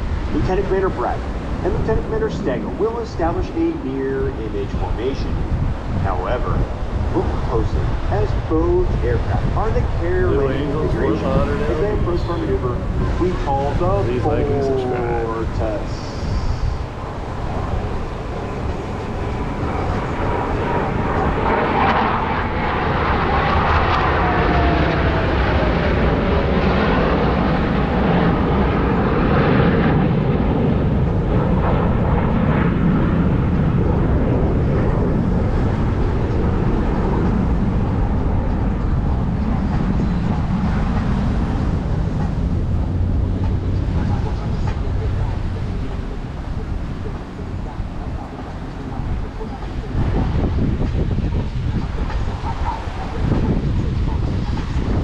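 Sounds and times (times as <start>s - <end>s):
jet engine noise with falling whine: 0.0s - 55.0s.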